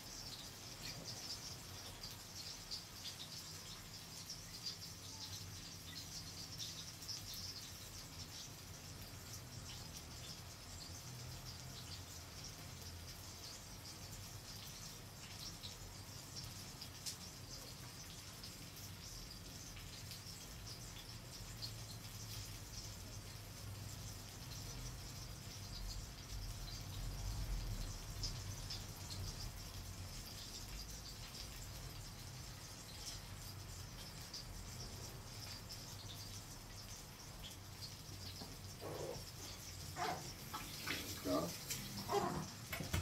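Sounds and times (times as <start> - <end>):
meat sizzling in a pan: 0.0 - 43.0.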